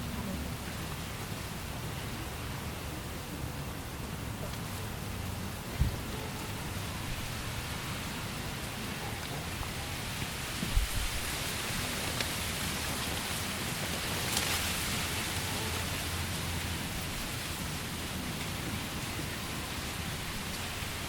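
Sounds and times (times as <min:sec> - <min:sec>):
rain falling on a tent: 0:00.0 - 0:21.0.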